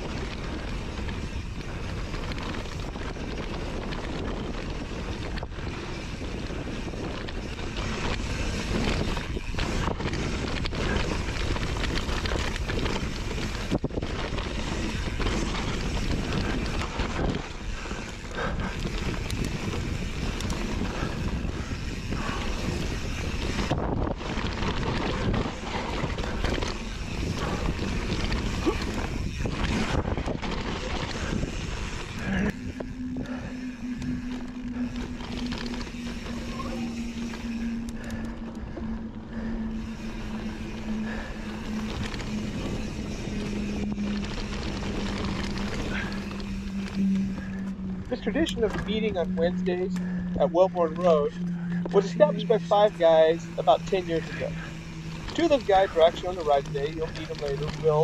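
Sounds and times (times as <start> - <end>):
bike rolling on dirt trail: 0.0 - 58.0
wind buffeting microphone: 0.0 - 58.0.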